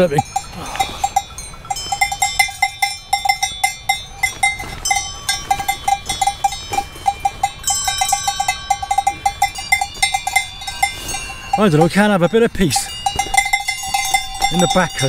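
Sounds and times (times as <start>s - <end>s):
cowbells clanking: 0.0s - 15.0s.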